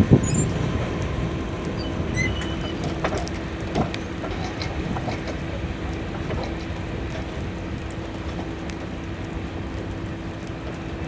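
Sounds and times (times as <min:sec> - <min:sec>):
freight train cars rolling: 0:00.0 - 0:11.0.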